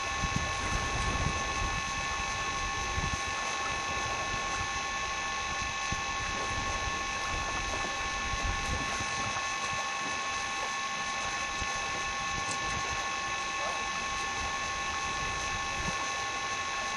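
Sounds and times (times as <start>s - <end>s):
wind on microphone: 0.0s - 10.4s, 11.2s - 16.5s
drone of steady tones: 0.0s - 16.9s.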